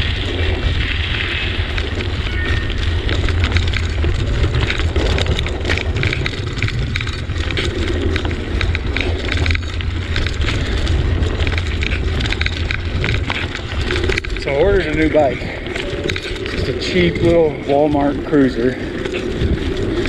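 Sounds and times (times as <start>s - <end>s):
bicycle ride rumble: 0.0s - 20.0s
bike clicks and rattles: 0.0s - 20.0s
wind on microphone: 0.0s - 20.0s.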